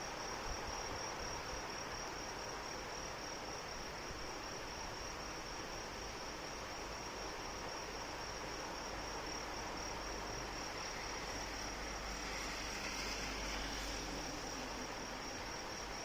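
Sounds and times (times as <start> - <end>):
crickets trilling: 0.0 - 16.0
steady rain falling: 0.0 - 16.0.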